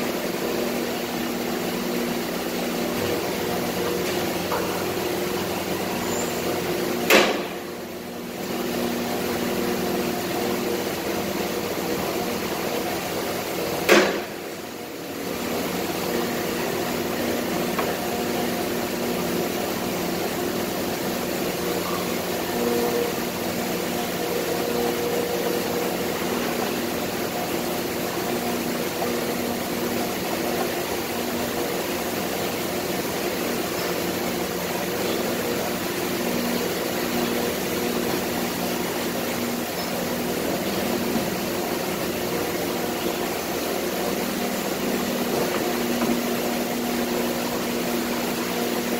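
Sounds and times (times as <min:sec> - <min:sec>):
factory machinery droning: 0:00.0 - 0:48.9.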